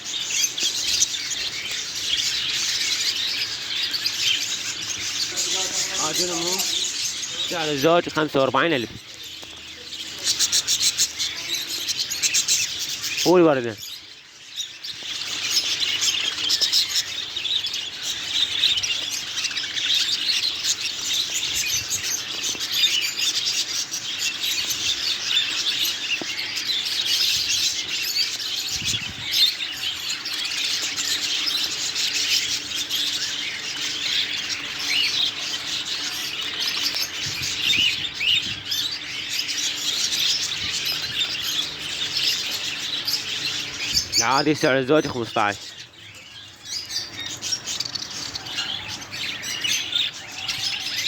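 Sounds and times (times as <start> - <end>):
bird squawk: 0.0 - 51.0
caged birds chirping: 0.0 - 51.0.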